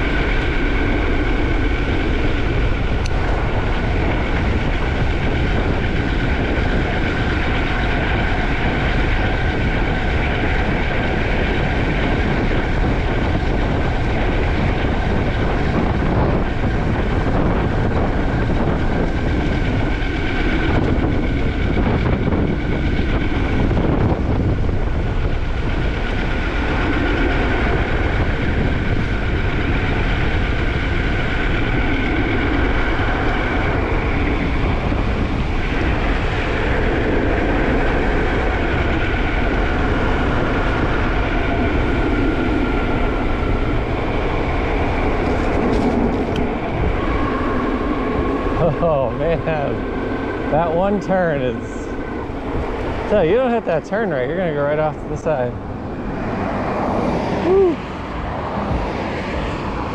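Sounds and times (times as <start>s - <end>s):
electric bike whine: 0.0s - 59.9s
wind rushing over microphone: 0.0s - 59.9s.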